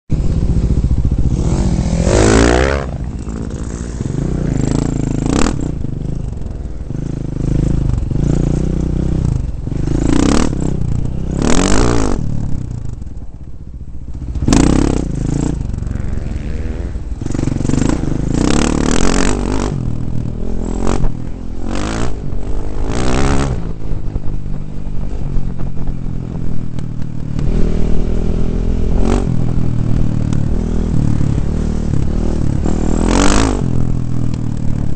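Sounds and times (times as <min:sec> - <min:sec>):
dirt bike engine revving: 0:00.1 - 0:12.9, 0:14.1 - 0:25.9, 0:27.2 - 0:34.9.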